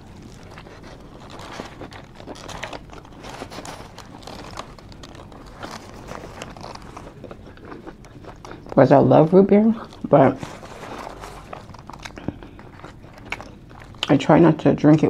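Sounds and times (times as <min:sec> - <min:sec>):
person chewing food: 0:00.0 - 0:14.2.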